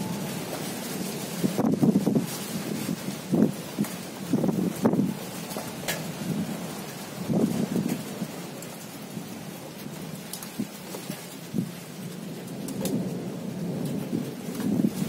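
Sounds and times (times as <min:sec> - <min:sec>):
rain falling: 0:00.0 - 0:15.0
thunder rumbling: 0:00.0 - 0:15.0
sharp taps of raindrops: 0:00.3 - 0:15.0.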